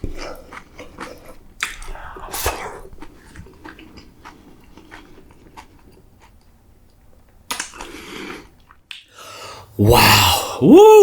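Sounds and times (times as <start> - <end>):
person chewing food: 0.0 - 9.1.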